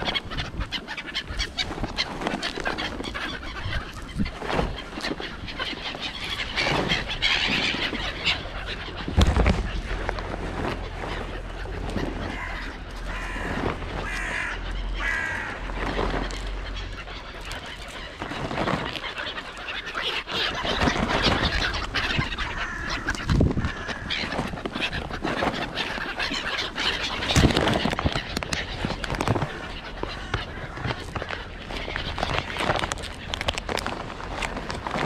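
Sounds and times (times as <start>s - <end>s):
crows calling: 0.0s - 35.0s
gulls calling: 0.0s - 35.0s.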